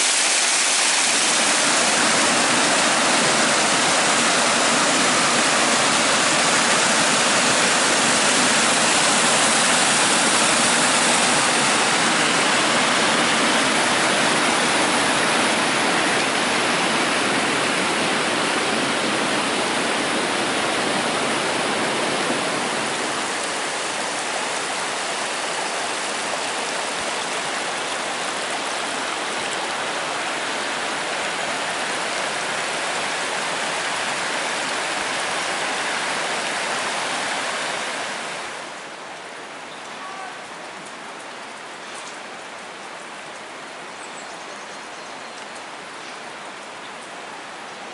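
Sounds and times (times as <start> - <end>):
waterfall roaring: 0.0 - 47.9.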